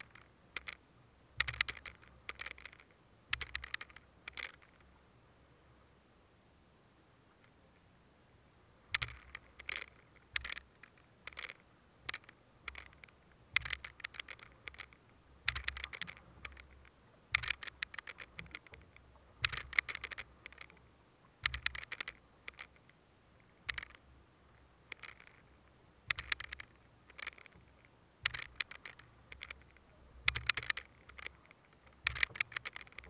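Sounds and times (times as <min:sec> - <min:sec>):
fishing line scratchy clicks: 0:00.0 - 0:05.0, 0:08.8 - 0:33.0.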